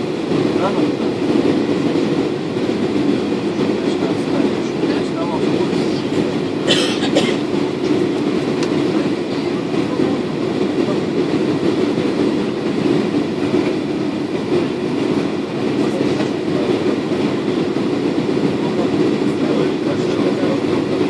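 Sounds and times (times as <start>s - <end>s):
airliner engine rumble in cabin: 0.0s - 21.0s.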